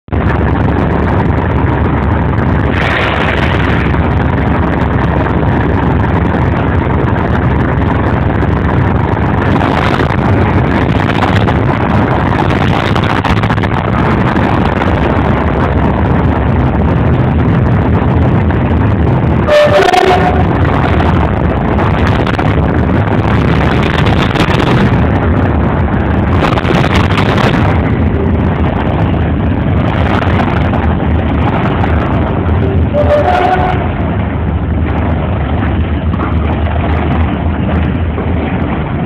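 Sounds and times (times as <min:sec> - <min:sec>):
diesel locomotive engine drone: 0:00.0 - 0:39.0.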